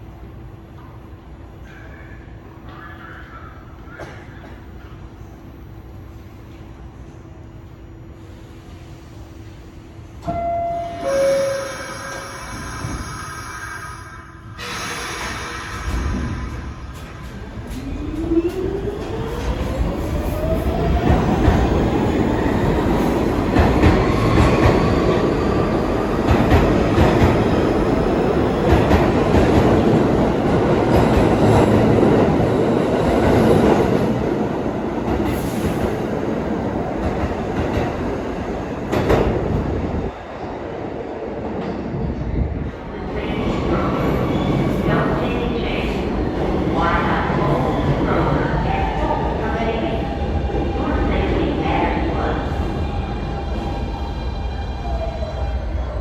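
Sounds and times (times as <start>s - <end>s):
loud train rumble: 0.0s - 56.0s.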